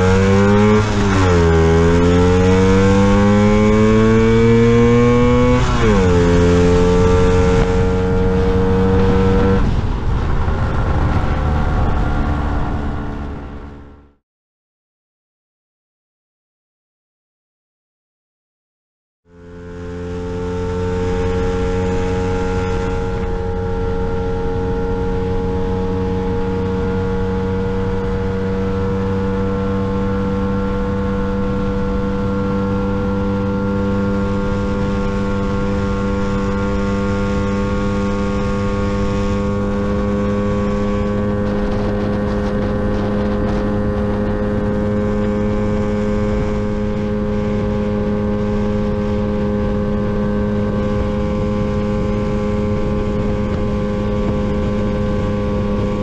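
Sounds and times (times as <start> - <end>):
scooter engine at high revs: 0.0 - 13.9, 19.3 - 56.0.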